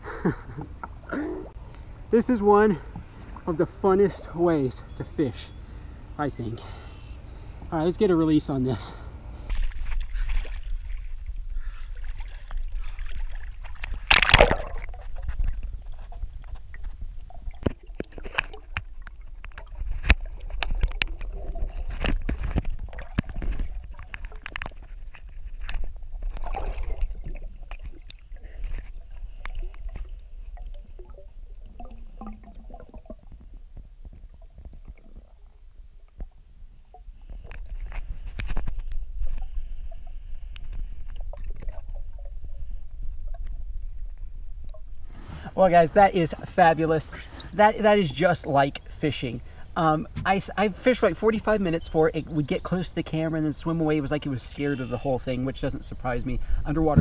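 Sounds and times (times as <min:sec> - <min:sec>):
muffled water sloshing underwater: 0:00.0 - 0:07.7, 0:08.9 - 0:57.0.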